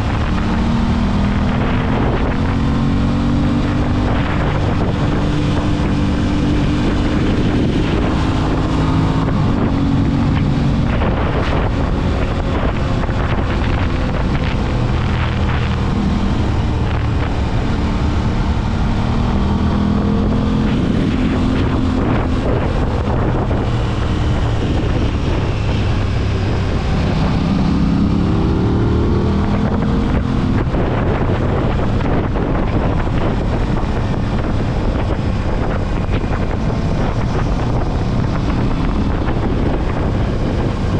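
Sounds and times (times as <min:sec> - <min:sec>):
motorcycle engine revving: 0:00.0 - 0:40.9
wind buffeting microphone: 0:00.0 - 0:40.9.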